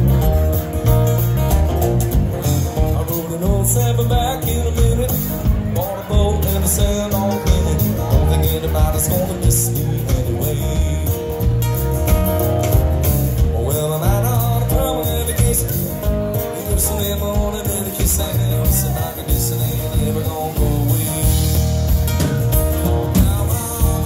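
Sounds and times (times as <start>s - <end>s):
drum kit beat: 0.0s - 24.0s
electric bass: 0.0s - 24.0s
man singing: 0.0s - 24.0s
second guitar: 0.0s - 24.0s
strummed acoustic guitar: 0.0s - 24.0s.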